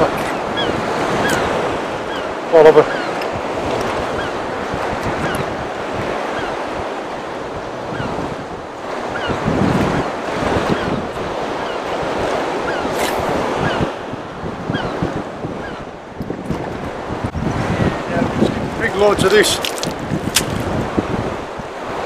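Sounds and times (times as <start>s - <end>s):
choppy sea washing around boat: 0.0s - 22.0s
wind buffeting microphone: 0.0s - 22.0s.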